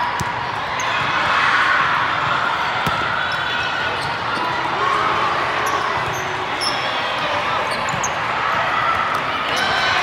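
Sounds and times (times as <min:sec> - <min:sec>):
crowd talking and calling: 0:00.0 - 0:10.0.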